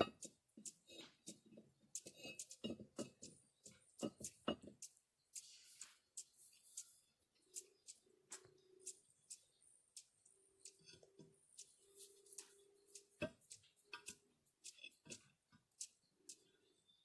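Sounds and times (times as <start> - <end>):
small clicks and ticks: 0.0 - 17.0.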